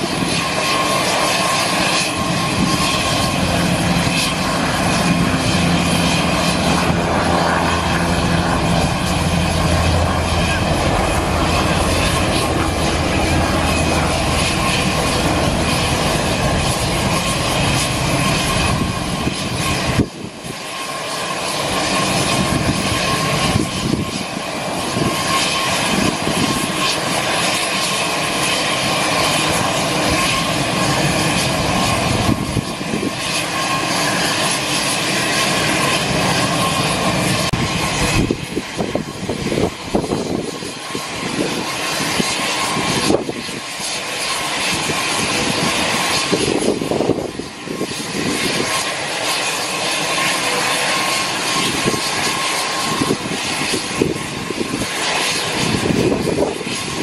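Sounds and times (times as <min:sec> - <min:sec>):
aircraft turbine whine and rumble: 0:00.0 - 0:57.0.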